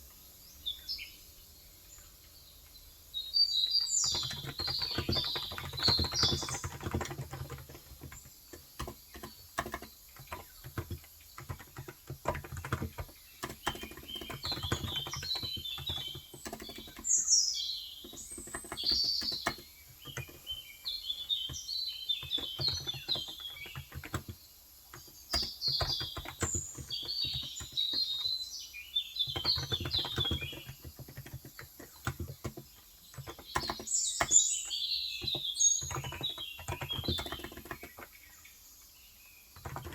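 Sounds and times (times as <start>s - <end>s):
small birds chirping: 0.0s - 39.9s
soft keyboard typing: 3.6s - 28.5s, 29.2s - 38.3s, 39.5s - 39.9s.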